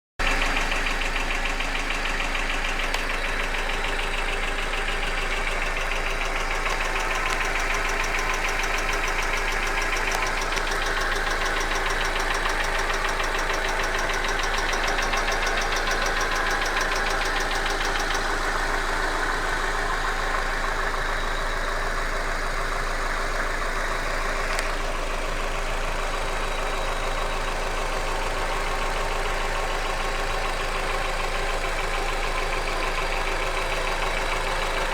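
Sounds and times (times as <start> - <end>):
car engine running: 0.2 - 34.9
fast knocking inside engine: 0.2 - 34.9.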